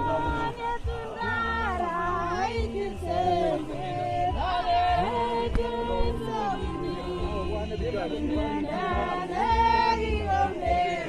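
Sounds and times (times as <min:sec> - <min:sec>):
choir singing: 0:00.0 - 0:11.0
instrumental music with low bass: 0:00.0 - 0:11.0.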